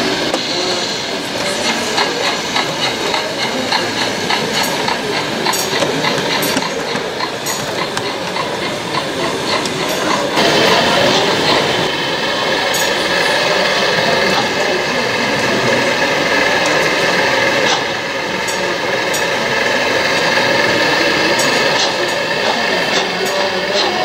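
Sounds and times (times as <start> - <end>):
model trains rumbling: 0.0 - 24.0
train wheels clicking over rail joints: 0.0 - 24.0.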